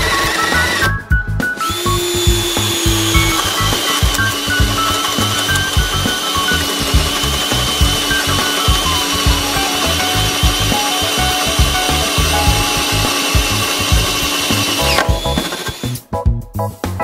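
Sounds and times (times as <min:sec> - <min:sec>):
drill boring into wood: 0:00.0 - 0:01.0, 0:01.6 - 0:16.0
background music with a beat: 0:00.0 - 0:17.0.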